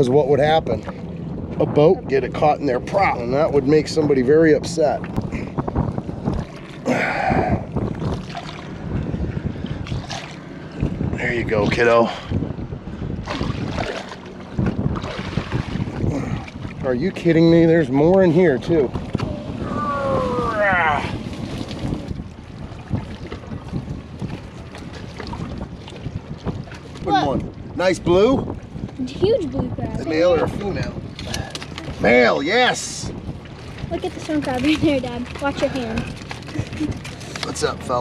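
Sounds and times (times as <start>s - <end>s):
water splashing: 0.0s - 38.0s
wind buffeting microphone: 0.0s - 38.0s.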